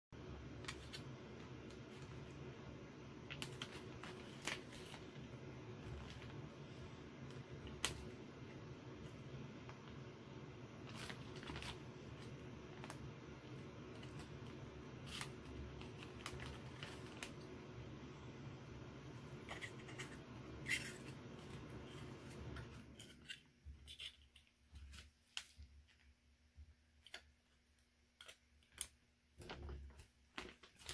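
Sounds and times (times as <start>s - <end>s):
low steady hum: 0.2s - 30.9s
soft plastic rustling: 0.4s - 18.2s, 18.9s - 30.9s.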